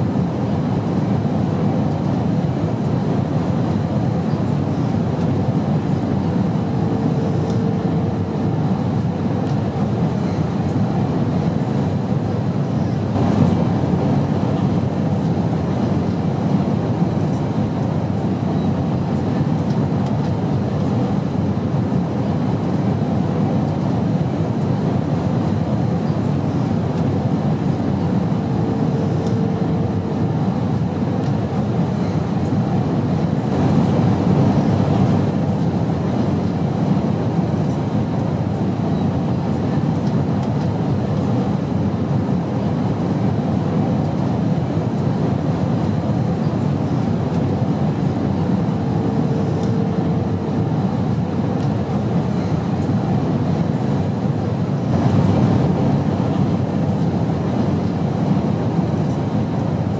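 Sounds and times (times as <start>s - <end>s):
airplane drone in flight: 0.0s - 59.9s.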